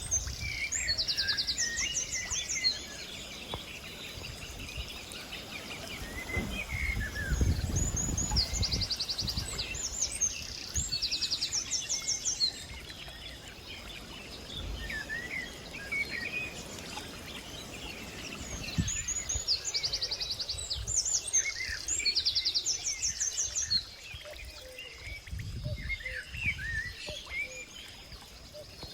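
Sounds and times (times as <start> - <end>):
birds chirping: 0.0 - 28.9
wind rumble on microphone: 0.0 - 28.9.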